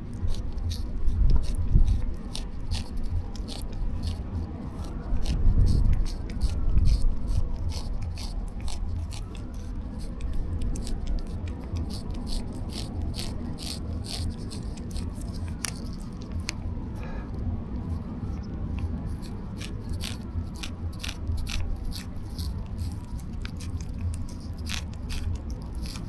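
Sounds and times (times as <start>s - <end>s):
cat licking and chewing: 0.0s - 26.0s.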